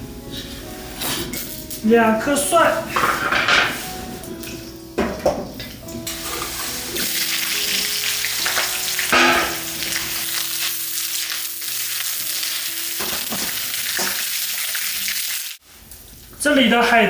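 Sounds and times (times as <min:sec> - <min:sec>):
food sizzling in a pan: 0:00.3 - 0:04.9, 0:06.0 - 0:16.3.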